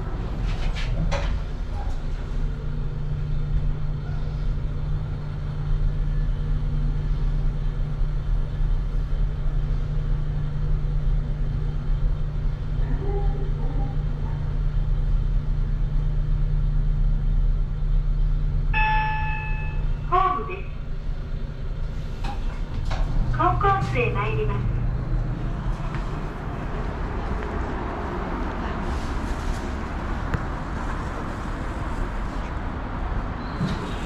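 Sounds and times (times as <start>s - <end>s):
elevator car humming and rumbling: 0.0s - 34.0s.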